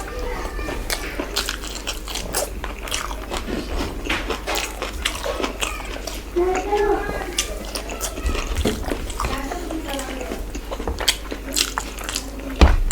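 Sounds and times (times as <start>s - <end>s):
person chewing and crunching food: 0.0s - 12.9s.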